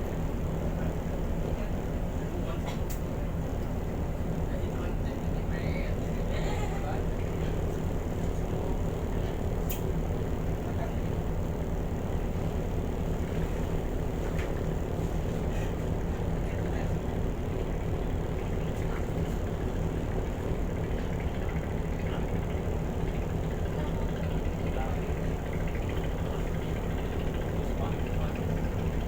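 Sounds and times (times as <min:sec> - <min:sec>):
ferry engines droning: 0:00.0 - 0:29.0.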